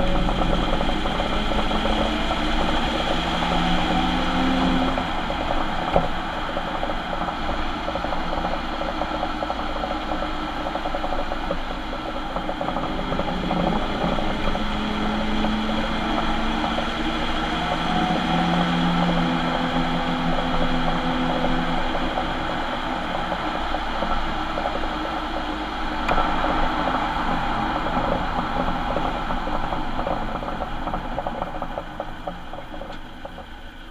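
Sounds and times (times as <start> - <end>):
differential whine: 0.0 - 33.9
van road and drivetrain noise: 0.0 - 33.9.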